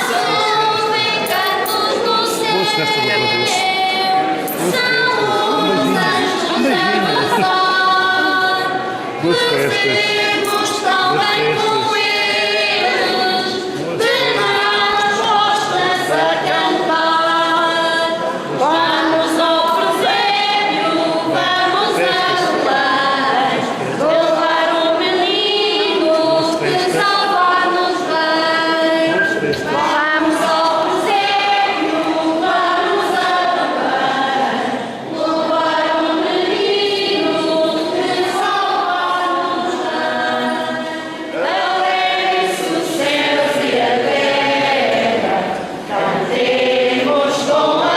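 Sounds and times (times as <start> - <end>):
church choir singing a hymn: 0.0 - 47.9.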